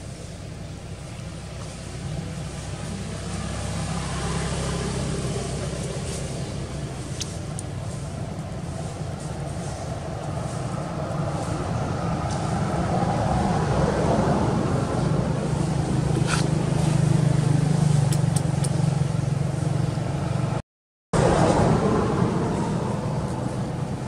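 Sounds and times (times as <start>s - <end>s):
vehicle engine humming: 0.0s - 20.6s, 21.2s - 24.0s.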